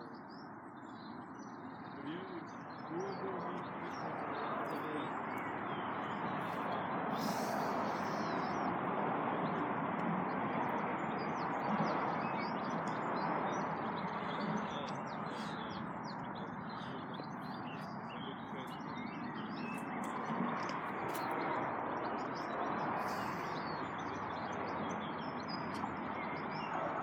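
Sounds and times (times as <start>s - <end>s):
birds chirping and singing: 0.0s - 8.8s, 9.4s - 27.0s.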